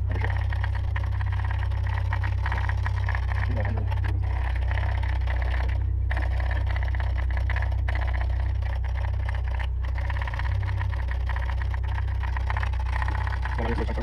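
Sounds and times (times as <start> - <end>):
engine idling with clatter: 0.0 - 14.0.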